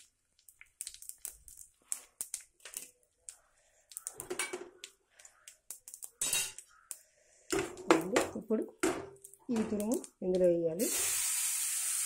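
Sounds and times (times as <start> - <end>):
spices crackling in hot oil: 0.0 - 8.6, 9.2 - 12.0.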